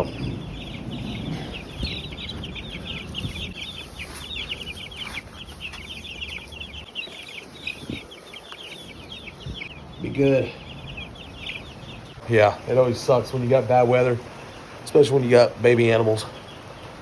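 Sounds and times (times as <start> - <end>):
baby chicks peeping: 0.0 - 17.0.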